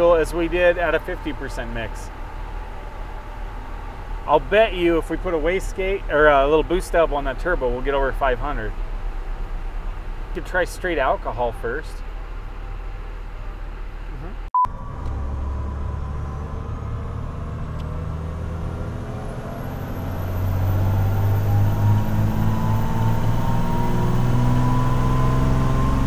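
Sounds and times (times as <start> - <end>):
diesel engine under load: 0.0 - 26.0
high turbo whine: 0.0 - 26.0.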